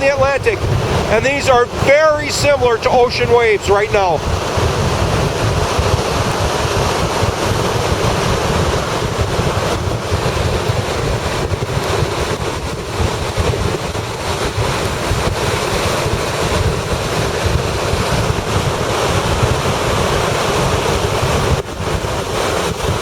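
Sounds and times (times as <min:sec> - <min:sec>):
storm waves breaking: 0:00.0 - 0:23.0
wind buffeting the microphone: 0:00.0 - 0:23.0.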